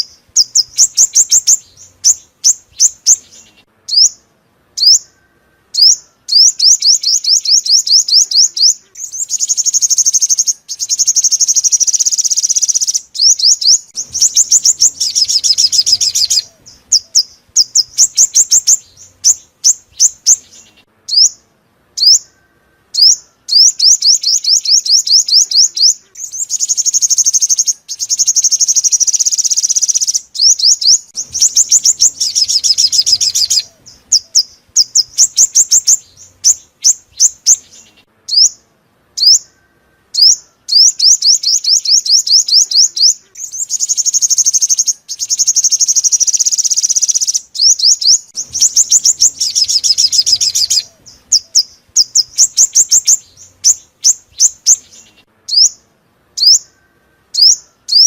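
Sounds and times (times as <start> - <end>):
bird chirps and buzzy trills: 0.0 - 58.0.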